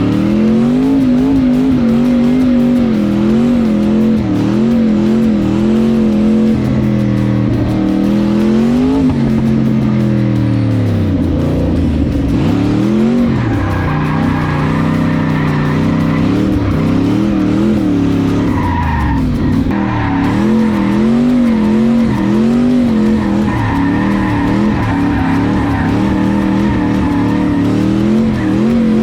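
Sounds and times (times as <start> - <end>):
car engine revving: 0.0 - 29.0
tyres squealing and skidding: 0.0 - 29.0.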